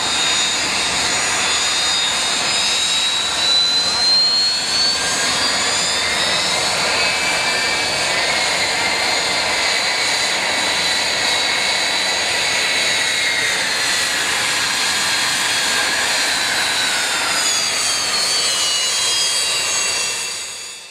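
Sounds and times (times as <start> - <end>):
aircraft engines whining: 0.0 - 20.9.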